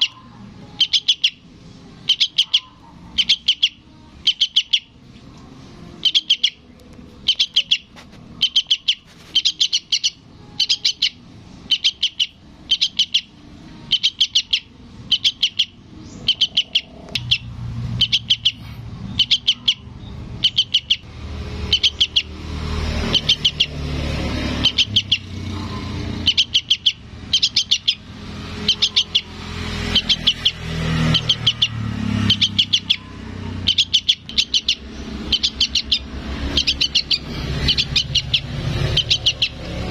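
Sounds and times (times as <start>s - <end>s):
bird chirping rapidly: 0.0s - 5.1s, 5.9s - 39.9s
vehicle rumbling past: 0.0s - 39.9s.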